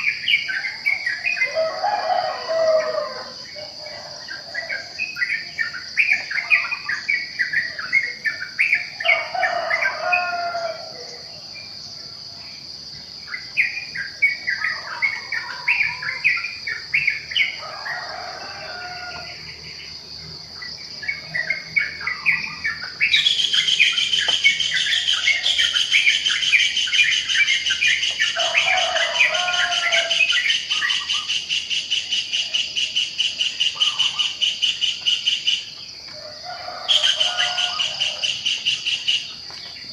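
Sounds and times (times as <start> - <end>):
birds chirping and singing: 0.0 - 39.9
high insect drone: 0.0 - 39.9.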